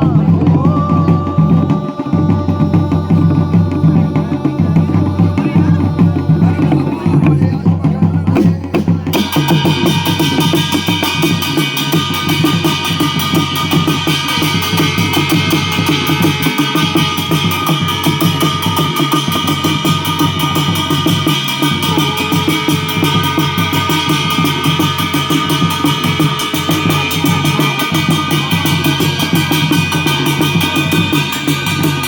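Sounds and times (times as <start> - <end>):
fast drumming: 0.0 - 32.0.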